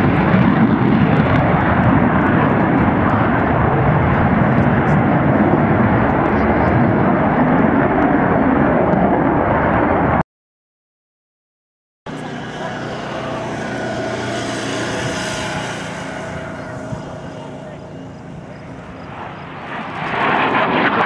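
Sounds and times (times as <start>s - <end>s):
aircraft engine passing: 0.0s - 10.2s, 12.1s - 21.0s
loud aircraft noise: 0.0s - 10.2s, 12.1s - 21.0s.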